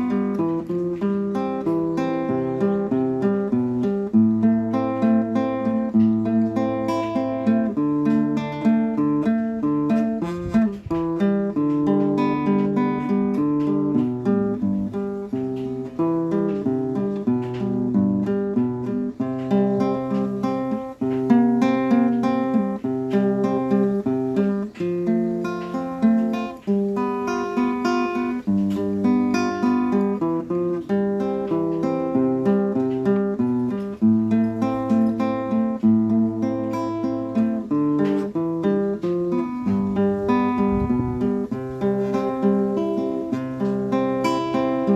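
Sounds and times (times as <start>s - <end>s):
acoustic guitar music: 0.0s - 44.9s.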